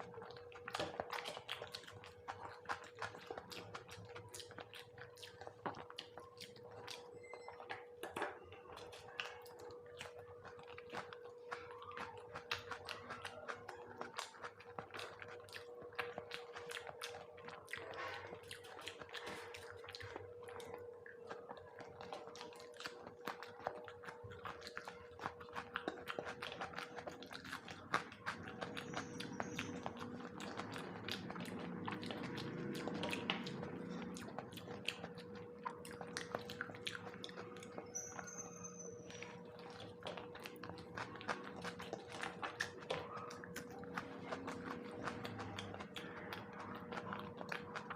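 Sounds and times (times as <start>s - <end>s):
close chewing mouth sounds: 0.0s - 47.9s
faint steady hum: 0.0s - 47.9s.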